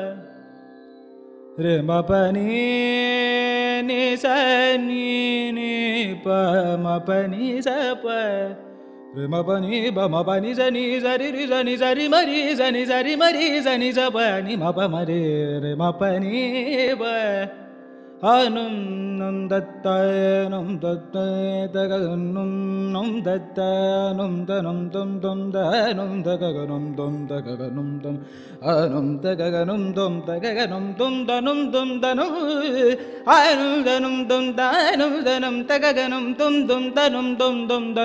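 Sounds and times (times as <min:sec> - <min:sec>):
man singing wordless melody: 0:00.0 - 0:00.3, 0:01.5 - 0:38.0.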